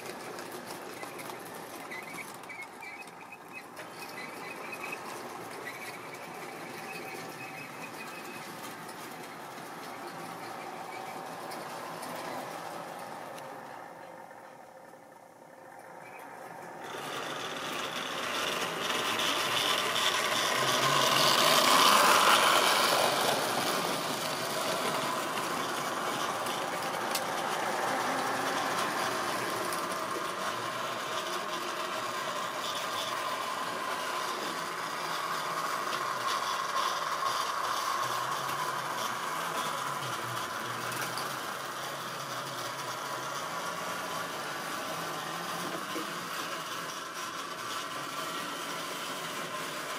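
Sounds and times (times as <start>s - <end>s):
model train wheels rattling: 0.0s - 49.9s.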